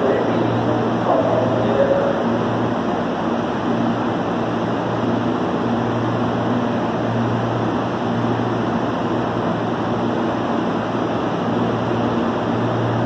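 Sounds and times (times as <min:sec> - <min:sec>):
electric trains humming: 0:00.0 - 0:13.0
low drone: 0:00.0 - 0:13.0.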